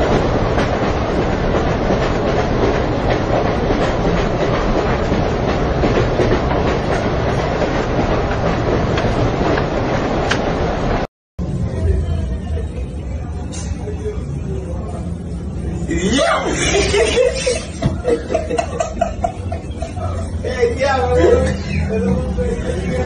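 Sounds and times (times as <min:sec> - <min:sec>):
train carriage rumble: 0:00.0 - 0:23.0.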